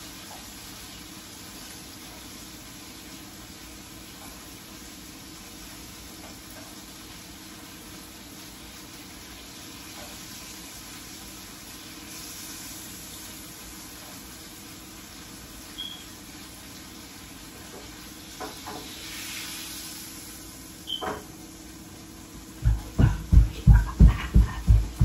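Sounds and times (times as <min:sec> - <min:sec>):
food sizzling in a frying pan: 0:00.0 - 0:22.6.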